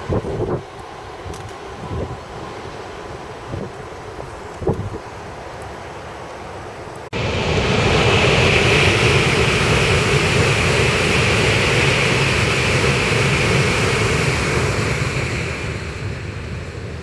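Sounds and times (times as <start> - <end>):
train rushing over bridge: 0.0 - 17.0.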